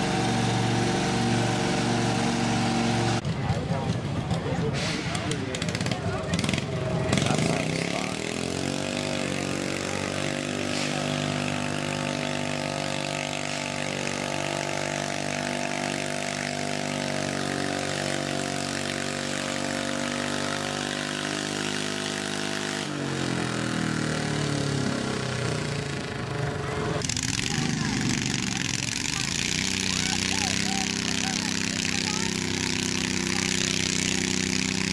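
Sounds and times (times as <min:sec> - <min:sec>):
garden tractor engine revving: 0:00.0 - 0:34.9.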